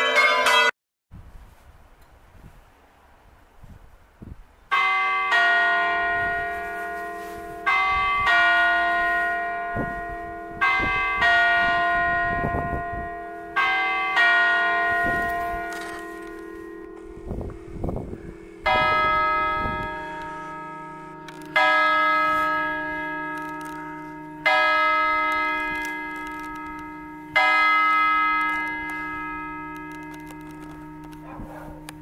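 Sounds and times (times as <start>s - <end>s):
church bell strokes: 0.0s - 0.7s, 4.7s - 32.0s.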